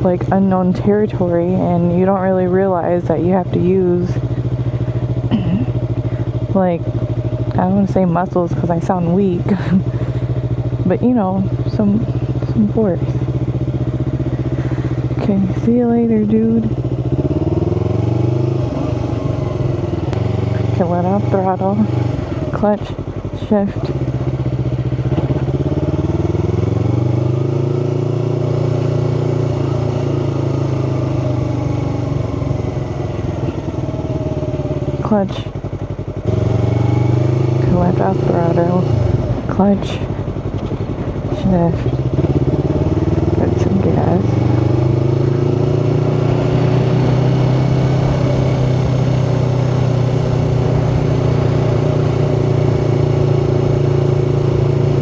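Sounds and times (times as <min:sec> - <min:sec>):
motorcycle engine at low speed: 0:00.0 - 0:55.0.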